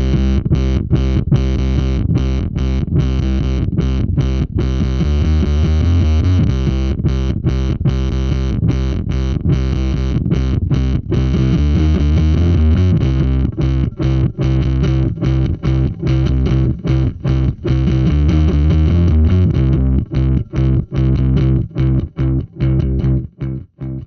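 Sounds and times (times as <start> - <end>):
distorted electric bass riff: 0.0 - 24.0.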